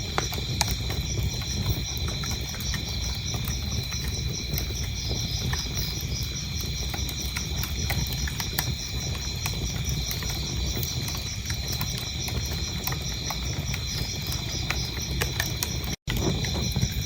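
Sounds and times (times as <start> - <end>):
crickets chirping: 0.0 - 17.0
wood fire crackling and popping: 0.0 - 17.0.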